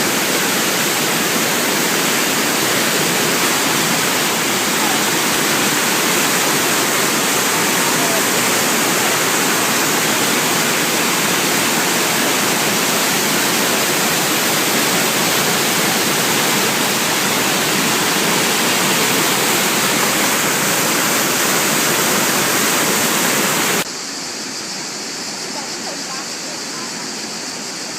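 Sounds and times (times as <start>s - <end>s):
waterfall roaring: 0.0s - 27.9s.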